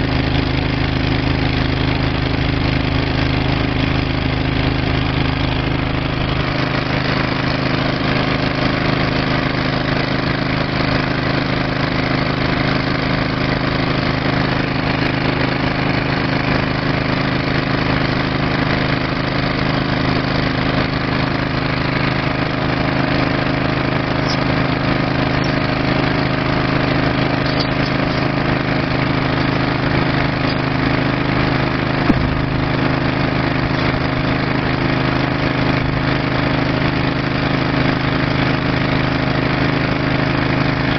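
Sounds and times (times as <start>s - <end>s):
small gasoline engine running: 0.0s - 40.9s.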